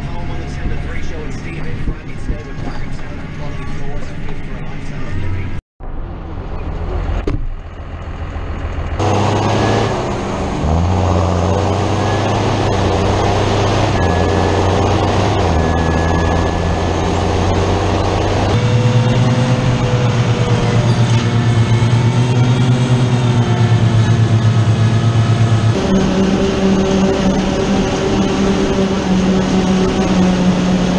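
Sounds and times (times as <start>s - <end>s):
heavy diesel engines running: 0.0s - 30.9s.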